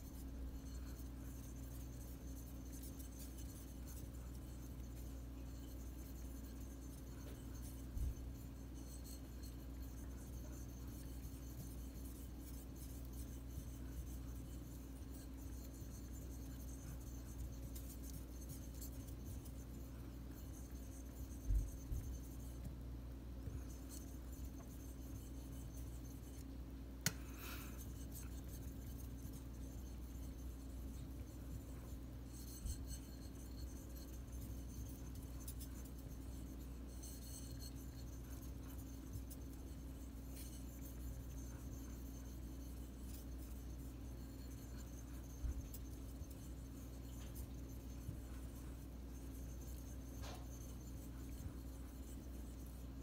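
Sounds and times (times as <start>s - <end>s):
steady low hum: 0.0s - 53.0s
knife scraping on sharpening stone: 0.1s - 22.6s, 23.5s - 26.4s, 27.0s - 52.9s.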